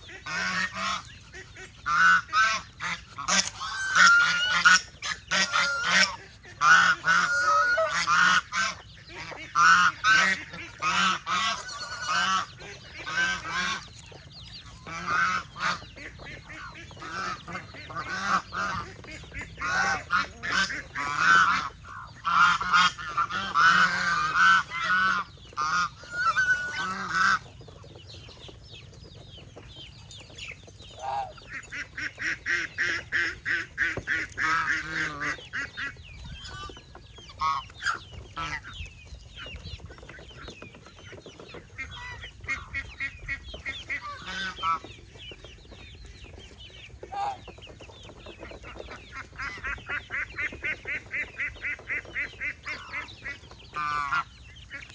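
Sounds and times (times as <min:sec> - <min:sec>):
geese honking: 0:00.0 - 0:27.6, 0:30.9 - 0:38.8, 0:41.5 - 0:45.2, 0:46.9 - 0:54.9.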